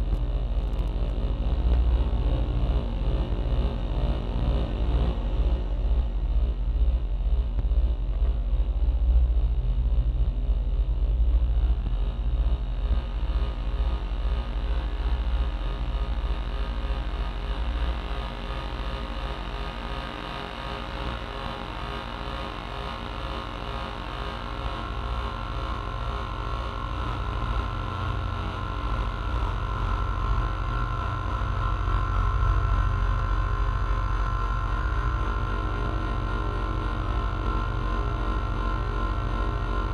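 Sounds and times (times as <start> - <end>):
deep low synth drone: 0.0 - 39.9
sine-like synth tones: 0.0 - 39.9.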